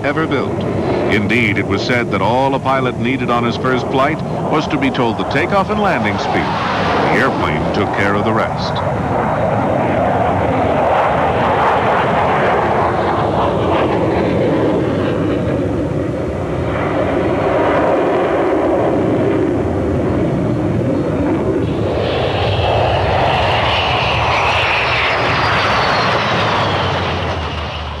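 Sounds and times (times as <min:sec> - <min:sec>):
high whine gliding down: 0:00.0 - 0:28.0
jet engines flying past: 0:00.0 - 0:28.0.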